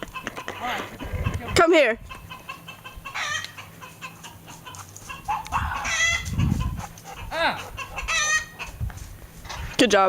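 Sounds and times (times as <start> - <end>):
chickens clucking: 0.0 - 9.8
hen squawking: 0.4 - 8.8.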